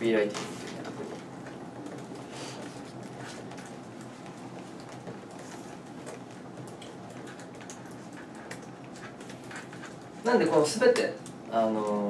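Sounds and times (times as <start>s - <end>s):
steady low hum: 0.0s - 12.0s
faint clicks and rustles: 0.3s - 12.0s.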